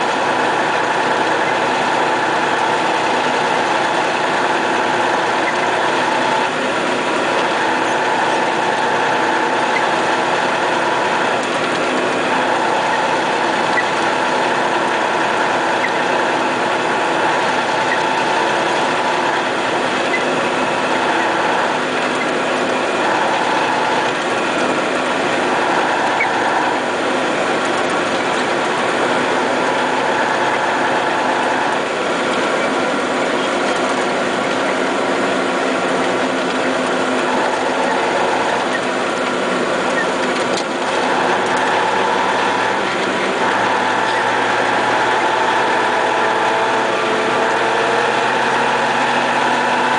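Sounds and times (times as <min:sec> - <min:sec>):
high mechanical whine: 0:00.0 - 0:49.9
truck diesel engine running: 0:00.0 - 0:49.9.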